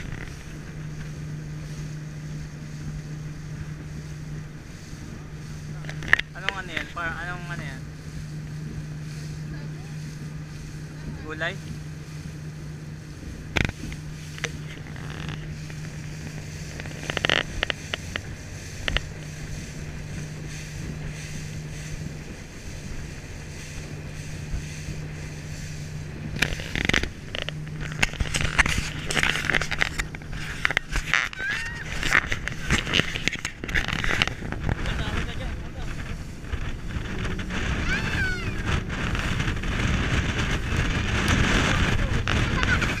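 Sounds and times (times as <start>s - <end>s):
boat engine humming: 0.0s - 43.0s
slapping and buffeting: 0.0s - 43.0s.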